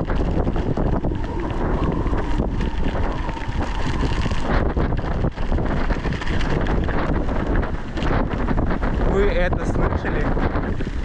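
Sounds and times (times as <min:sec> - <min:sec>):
blizzard wind buffeting microphone: 0:00.0 - 0:11.0.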